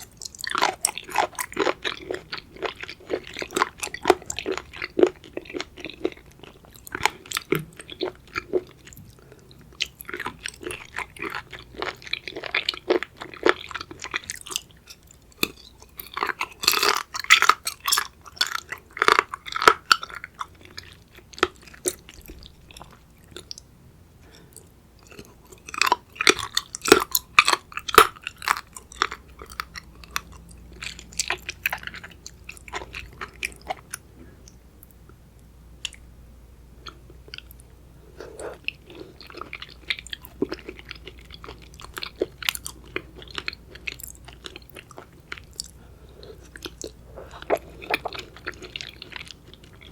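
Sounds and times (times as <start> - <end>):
crunchy chewing of seafood: 0.0 - 35.0, 36.8 - 49.9.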